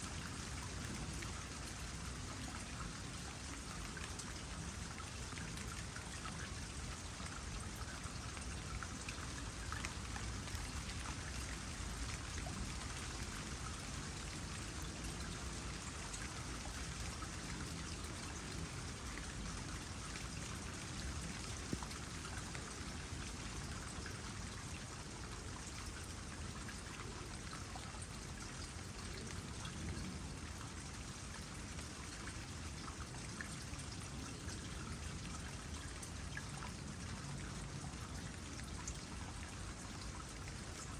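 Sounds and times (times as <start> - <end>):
light rain drops: 0.0 - 40.9
water trickling into pond: 0.0 - 40.9.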